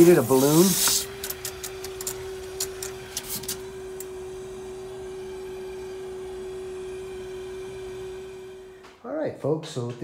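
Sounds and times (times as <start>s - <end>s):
machine humming: 0.0s - 9.0s.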